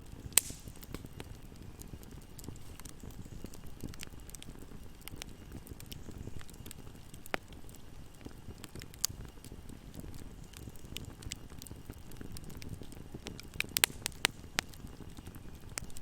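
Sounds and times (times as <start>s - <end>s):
fire crackling: 0.0s - 16.0s
loud pops of fire: 0.0s - 16.0s
low rumble of flames: 0.0s - 16.0s.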